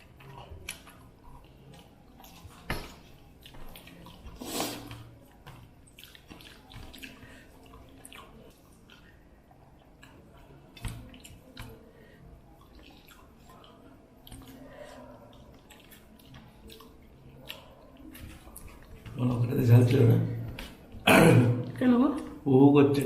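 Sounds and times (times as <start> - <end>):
wet chewing sounds: 0.0 - 22.5.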